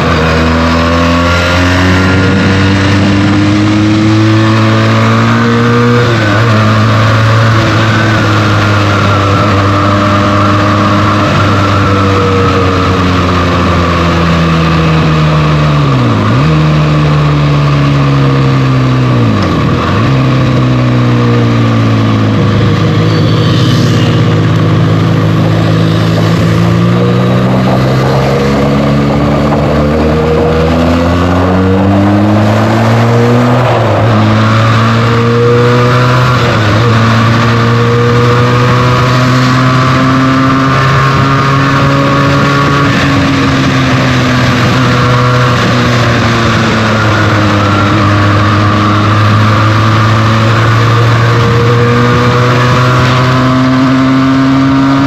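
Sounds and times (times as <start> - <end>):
motorcycle engine while riding: 0.0 - 55.0
wind rushing over microphone: 0.0 - 55.0.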